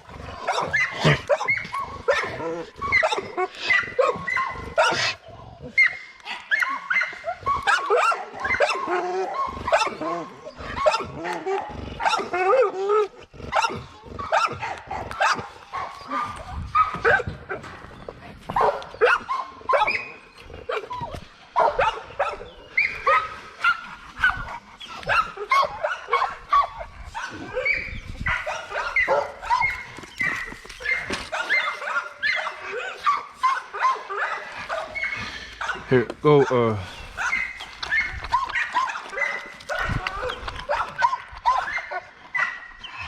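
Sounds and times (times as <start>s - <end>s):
dogs barking and yelping: 0.0s - 43.0s.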